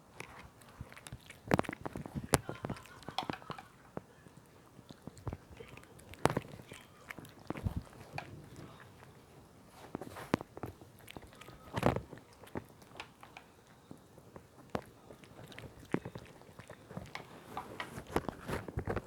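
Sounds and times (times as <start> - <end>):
dog crunching food: 0.0 - 19.0.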